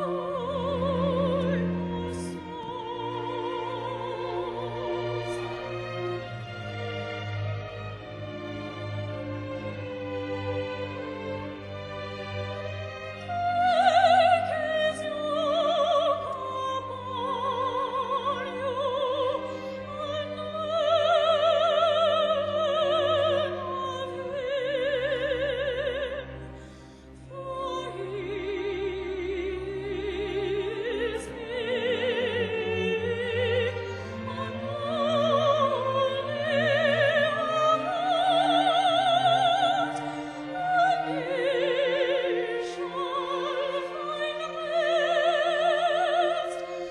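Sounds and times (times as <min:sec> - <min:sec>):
classical singer with vibrato: 0:00.0 - 0:46.9
string orchestra: 0:00.0 - 0:46.9.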